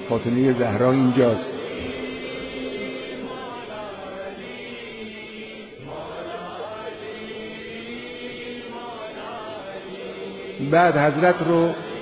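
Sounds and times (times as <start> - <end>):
mournful chanting voices: 0.0 - 12.0.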